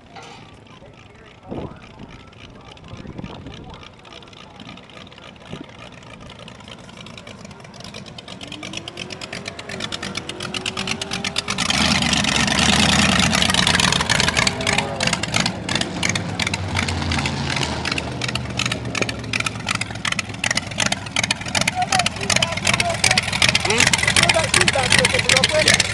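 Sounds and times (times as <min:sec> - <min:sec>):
supercharged engine lumpy idle: 0:00.0 - 0:25.9.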